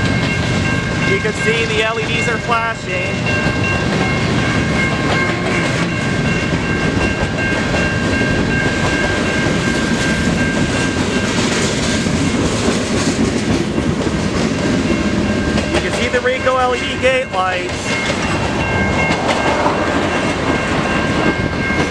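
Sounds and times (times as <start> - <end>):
train wheels clattering over rails: 3.3 - 21.9.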